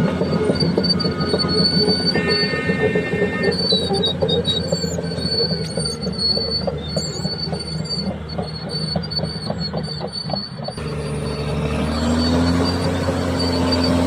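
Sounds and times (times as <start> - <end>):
bulldozer tracks squealing and knocking: 0.0 - 14.0
diesel engine hum: 0.0 - 14.0.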